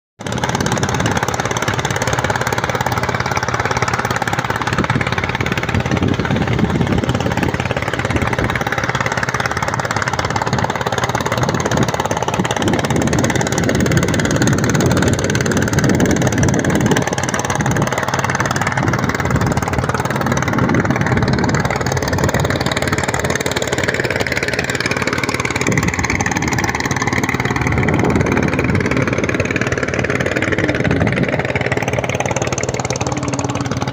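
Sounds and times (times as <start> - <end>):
engine running loudly: 0.2 - 33.9.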